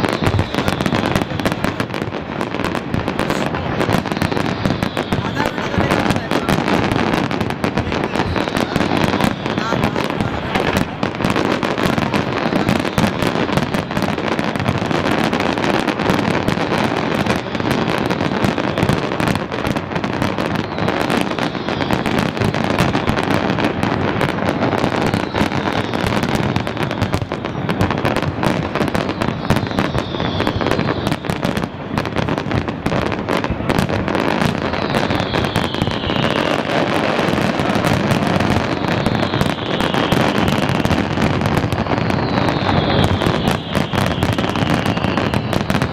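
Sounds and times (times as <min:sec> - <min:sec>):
fireworks bangs and crackling: 0:00.0 - 0:45.9
fireworks falling whistles: 0:00.0 - 0:45.9.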